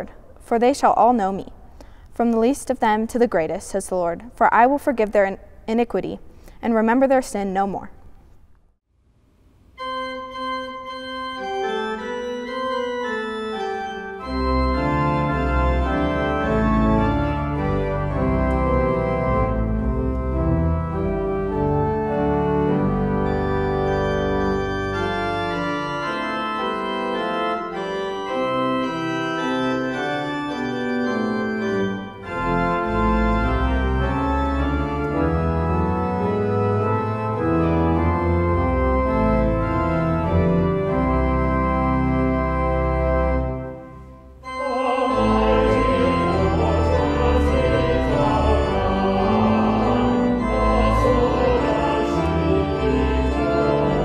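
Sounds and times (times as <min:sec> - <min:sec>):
pipe organ chords: 0:09.7 - 0:54.0
deep organ bass pedal notes: 0:09.8 - 0:54.0.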